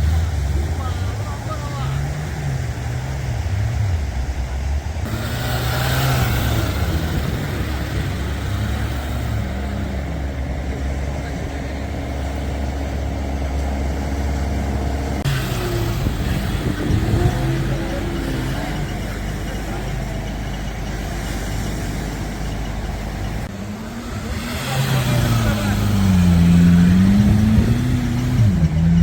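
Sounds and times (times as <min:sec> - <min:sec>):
off-road vehicle engine rumbling: 0:00.0 - 0:29.0.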